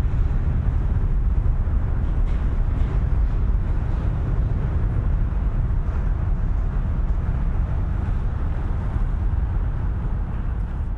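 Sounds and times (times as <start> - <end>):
low outdoor rumble: 0.0 - 10.9.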